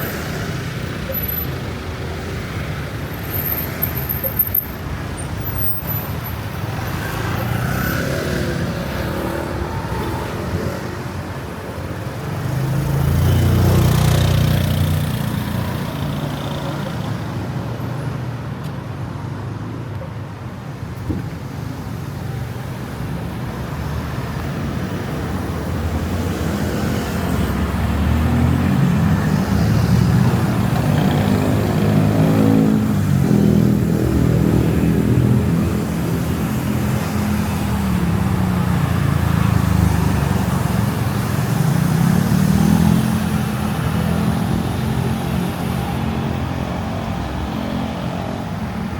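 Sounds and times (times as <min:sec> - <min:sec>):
vehicles passing on road: 0:00.0 - 0:48.9.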